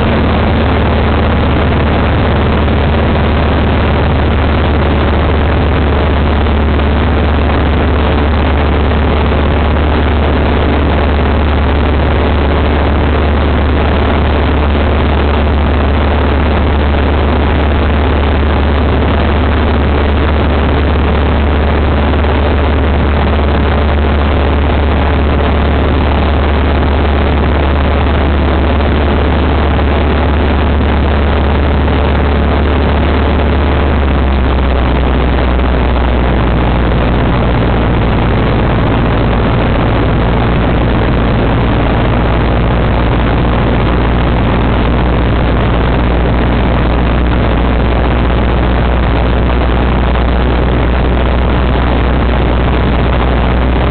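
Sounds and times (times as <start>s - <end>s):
light aircraft engine hum: 0.0s - 53.9s
rushing airflow: 0.0s - 53.9s.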